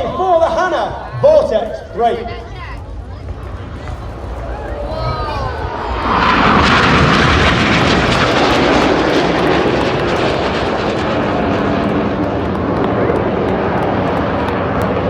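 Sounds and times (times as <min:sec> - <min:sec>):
jets flying past low: 0:00.8 - 0:15.0.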